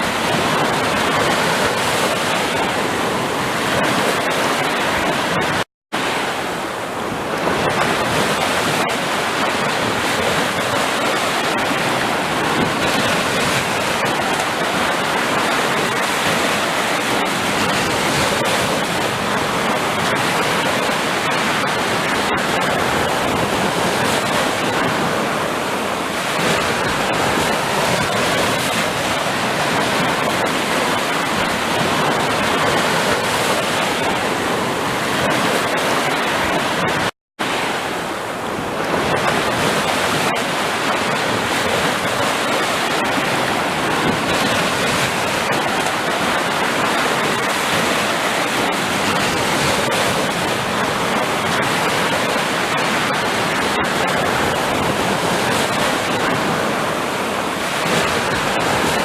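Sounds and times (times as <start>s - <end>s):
waves breaking: 0.0s - 59.0s.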